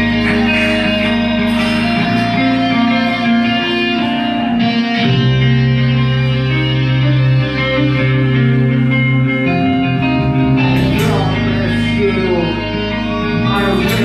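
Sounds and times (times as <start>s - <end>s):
bass guitar: 0.0s - 14.0s
sustained electric guitar chords: 0.0s - 14.0s.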